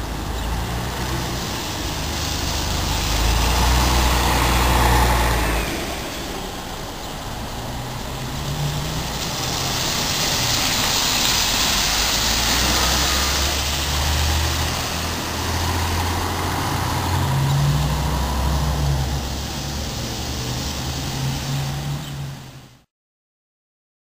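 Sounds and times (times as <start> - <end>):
bus engine droning: 0.0 - 22.9
tyre hiss on wet road: 0.0 - 22.9.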